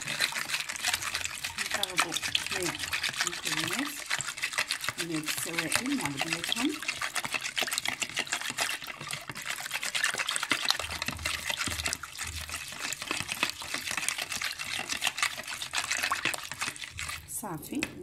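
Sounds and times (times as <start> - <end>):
whisk beating batter in bowl: 0.0 - 18.0.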